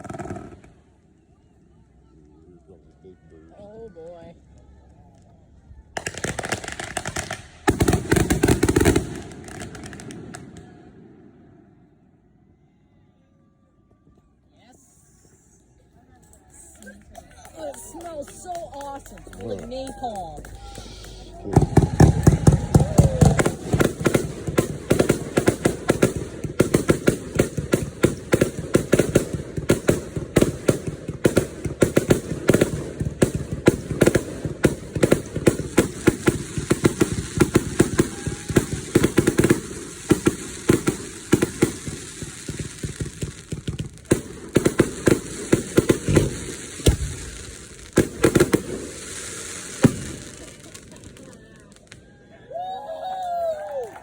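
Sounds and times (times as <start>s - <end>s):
fireworks bangs and crackling: 0.0s - 1.4s, 5.2s - 12.0s, 16.2s - 54.0s.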